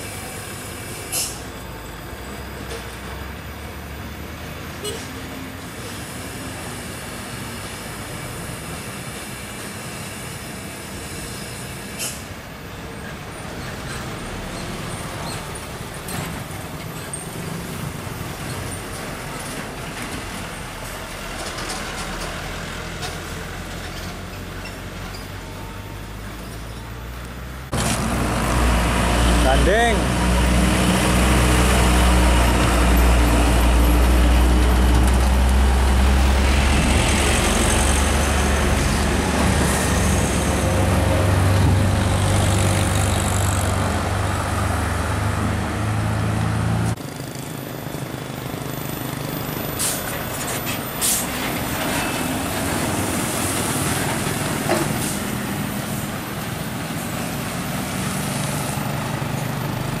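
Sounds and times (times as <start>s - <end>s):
heavy diesel truck engines: 0.0s - 60.0s.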